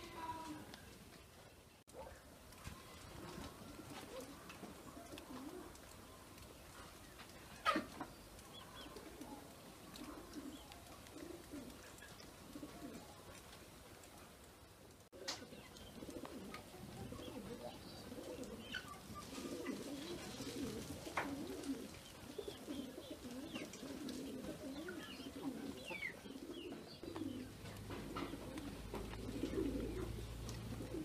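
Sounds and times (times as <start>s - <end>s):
small birds chirping: 0.1s - 14.3s, 15.2s - 31.0s
pigeons cooing: 3.0s - 13.9s, 15.2s - 31.0s.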